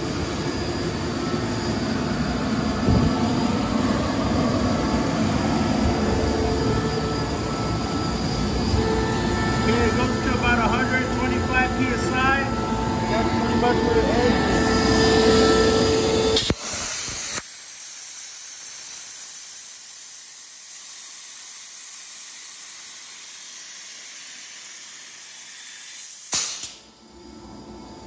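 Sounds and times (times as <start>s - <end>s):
air compressor running: 0.0s - 27.0s.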